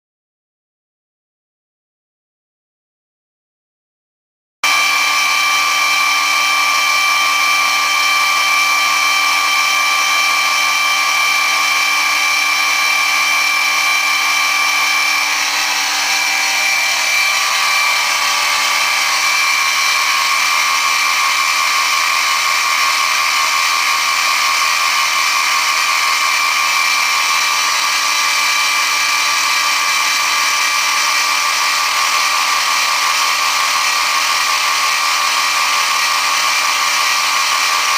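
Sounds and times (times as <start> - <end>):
milling machine whine: 4.6 - 37.9.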